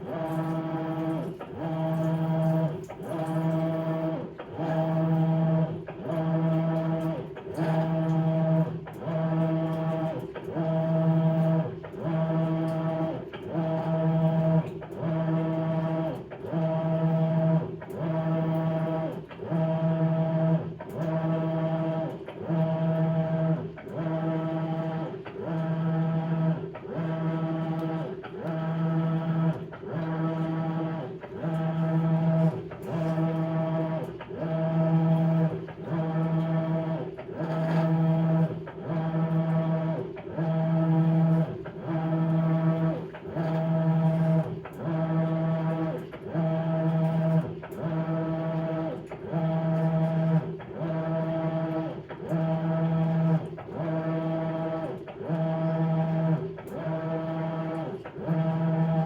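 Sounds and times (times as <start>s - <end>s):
washing machine agitating: 0.0s - 59.0s.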